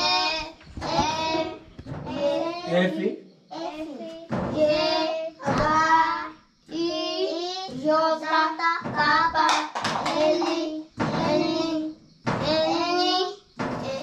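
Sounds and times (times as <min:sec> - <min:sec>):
children chanting in unison: 0:00.0 - 0:14.0.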